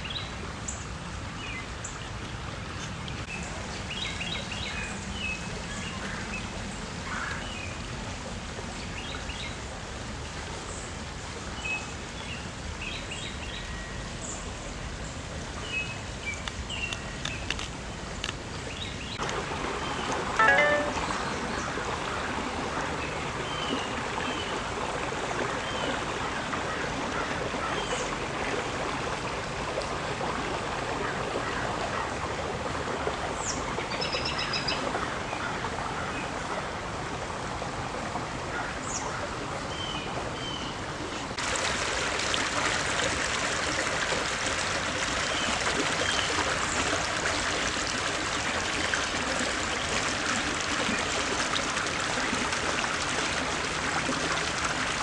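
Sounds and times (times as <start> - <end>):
creek trickling over stones: 0.0 - 55.0.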